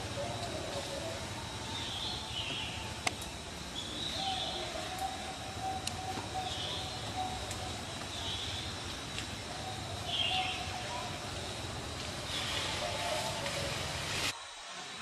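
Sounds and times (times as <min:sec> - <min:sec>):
birds chirping: 0:00.0 - 0:14.1.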